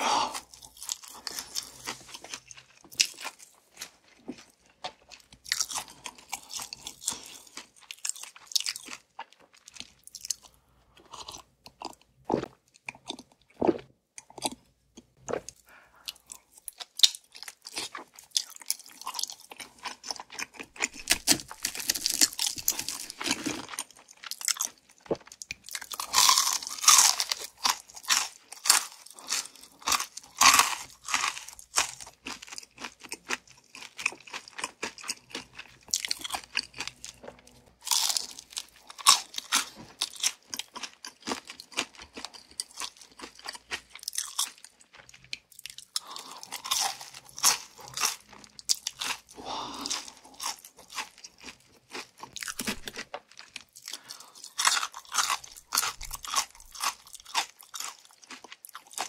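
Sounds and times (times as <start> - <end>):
chewing crispy fried chicken: 0.0 - 59.0.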